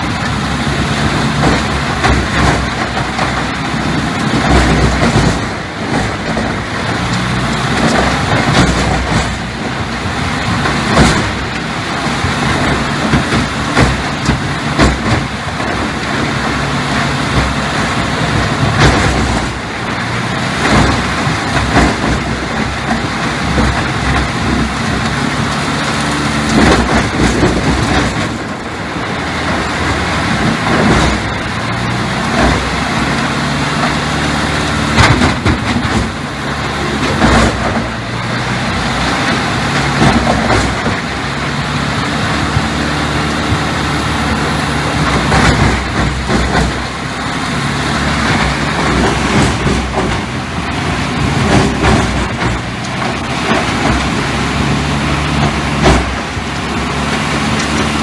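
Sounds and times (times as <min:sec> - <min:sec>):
heavy diesel machinery running: 0:00.0 - 0:58.0
sharp knocks and cracks: 0:00.0 - 0:58.0.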